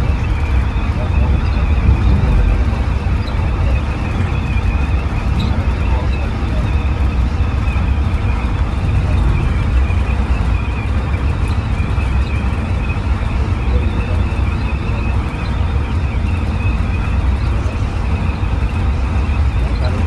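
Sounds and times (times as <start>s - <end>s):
low engine rumble: 0.0s - 20.0s
road noise: 0.0s - 20.0s.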